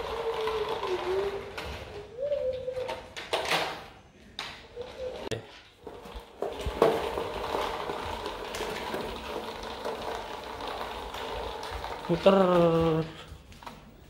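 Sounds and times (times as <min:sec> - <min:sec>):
scooter wheels clacking: 0:00.0 - 0:03.9, 0:04.6 - 0:14.0
scooter rolling on tiled floor: 0:00.0 - 0:14.0.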